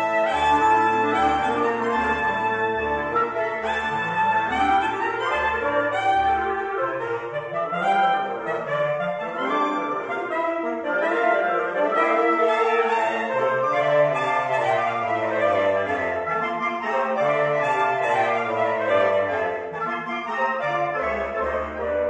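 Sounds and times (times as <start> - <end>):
reed quintet playing: 0.0 - 22.0.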